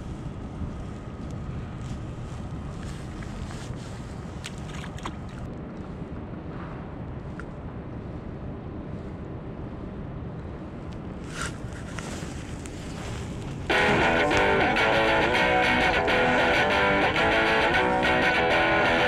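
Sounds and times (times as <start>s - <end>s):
wind buffeting microphone: 0.0s - 18.5s.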